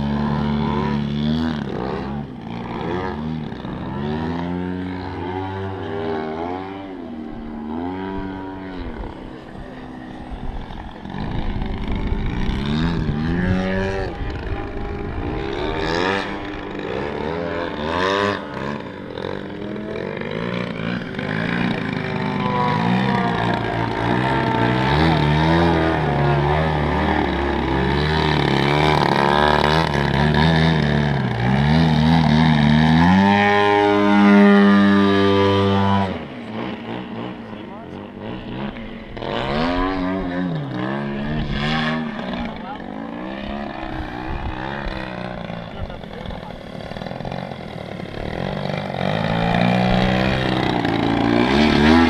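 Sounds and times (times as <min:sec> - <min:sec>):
model plane engine and propeller: 0:00.0 - 0:52.0.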